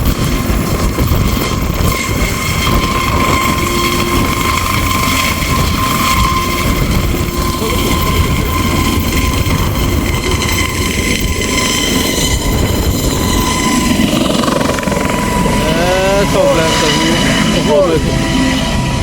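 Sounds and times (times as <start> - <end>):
helicopter engine and rotor noise: 0.0 - 19.0
thin steady whine: 0.0 - 19.0.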